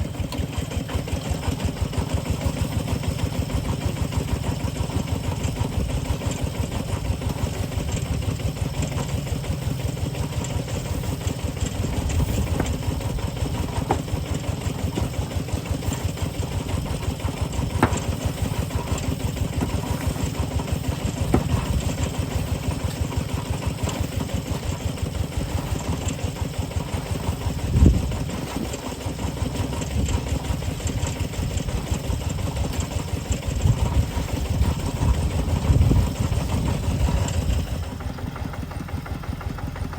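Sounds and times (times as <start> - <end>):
engine knocks: 0.0 - 39.9
engine running with pulsing beat: 0.0 - 39.9.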